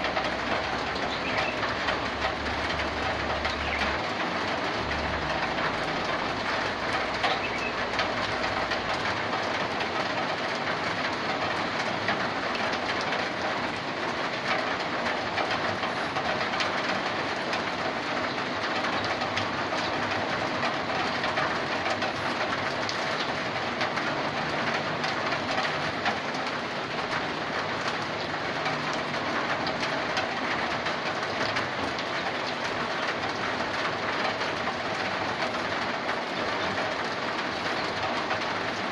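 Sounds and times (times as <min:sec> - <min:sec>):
rain pouring on metal roof: 0:00.0 - 0:38.9.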